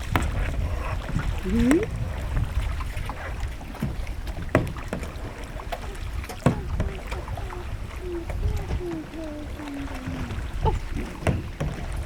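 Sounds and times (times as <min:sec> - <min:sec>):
kayak paddling: 0:00.0 - 0:12.0
paddle knocking against hull: 0:00.0 - 0:12.0
wind rumble on microphone: 0:00.0 - 0:12.0.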